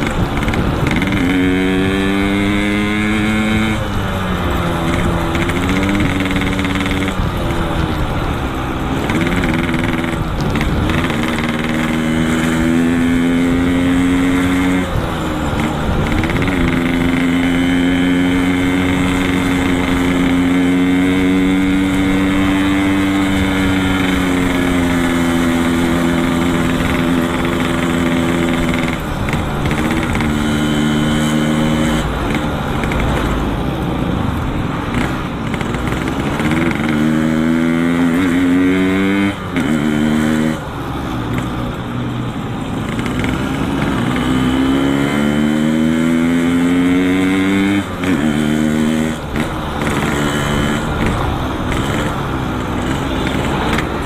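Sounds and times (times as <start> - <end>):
low wind rumble: 0.0 - 54.0
two-stroke motorcycle engine running: 0.0 - 54.0.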